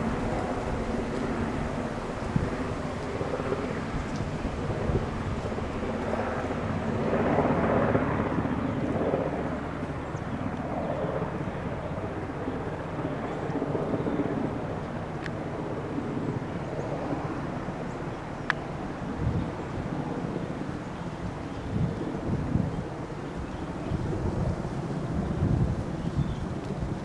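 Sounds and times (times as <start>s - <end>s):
airplane drone: 0.0s - 27.0s
wind buffeting microphone: 0.0s - 27.0s.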